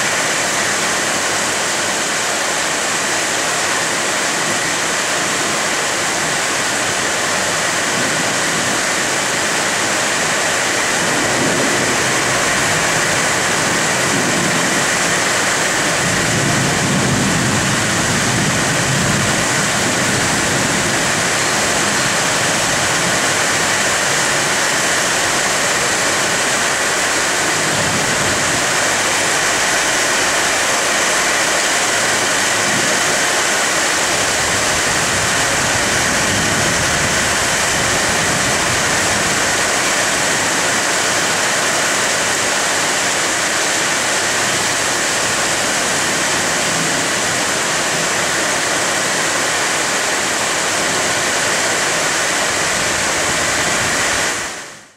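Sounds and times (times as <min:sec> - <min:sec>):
heavy rain on leafy trees: 0:00.0 - 0:54.9.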